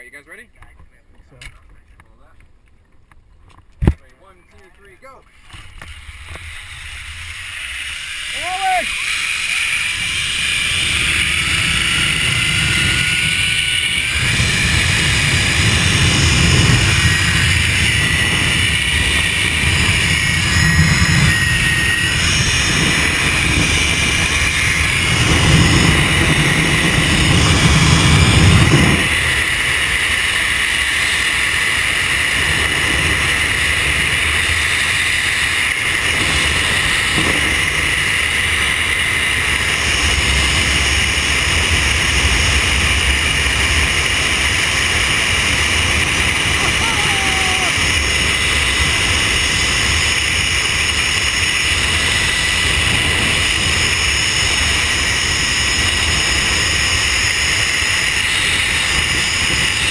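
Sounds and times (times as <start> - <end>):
zip-line pulleys whining: 5.2 - 59.9
wind rushing on microphone: 6.1 - 59.9.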